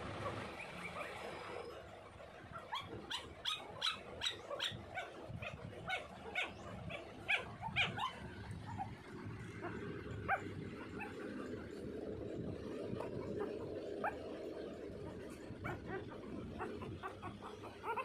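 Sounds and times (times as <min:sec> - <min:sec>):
puppies yelping whines: 0:00.2 - 0:01.7, 0:02.6 - 0:11.8, 0:12.7 - 0:18.0.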